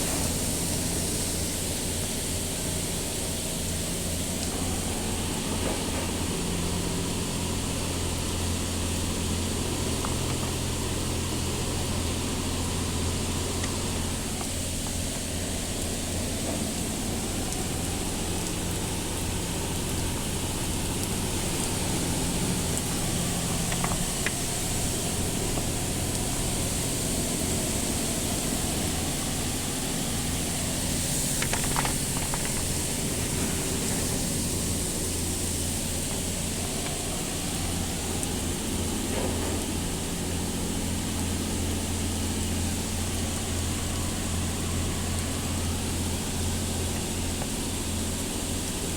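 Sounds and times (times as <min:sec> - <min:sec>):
constant low hum: 0:00.0 - 0:48.9
rushing hiss: 0:00.0 - 0:48.9.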